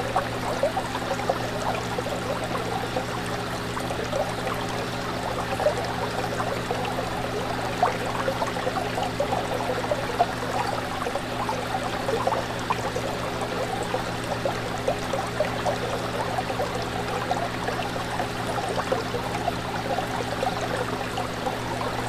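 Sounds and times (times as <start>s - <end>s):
aquarium water bubbling: 0.0s - 22.0s.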